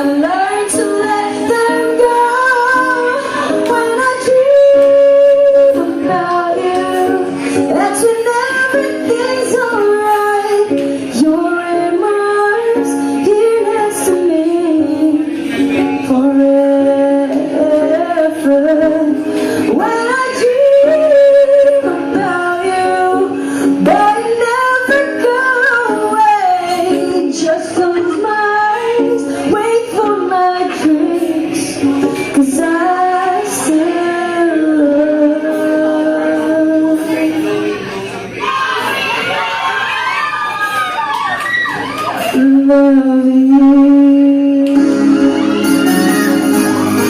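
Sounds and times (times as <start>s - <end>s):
woman singing pop ballad: 0.0s - 37.6s, 42.3s - 45.4s
musical accompaniment: 0.0s - 38.4s, 42.1s - 47.0s.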